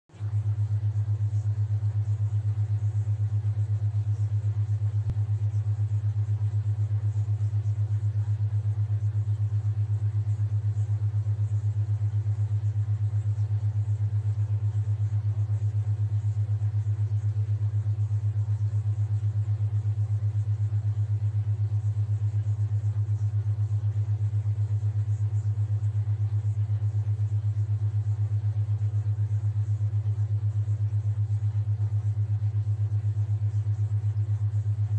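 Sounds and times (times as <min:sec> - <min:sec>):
pulsing low tone: 0:00.1 - 0:34.9.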